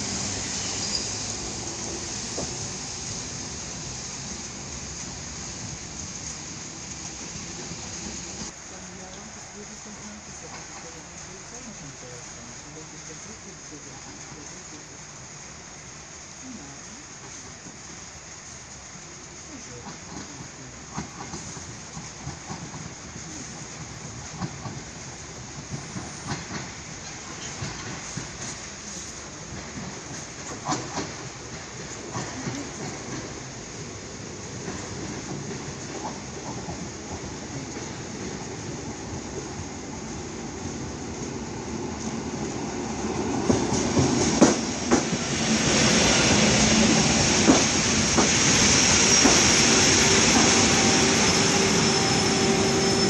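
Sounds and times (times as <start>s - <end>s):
electric train pulling away: 0.0s - 12.9s, 21.2s - 53.0s
rain hiss: 0.0s - 53.0s.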